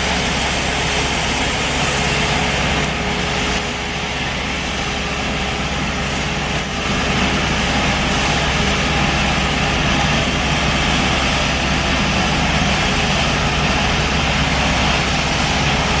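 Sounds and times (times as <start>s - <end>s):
heavy vehicle engine running: 0.0s - 16.0s.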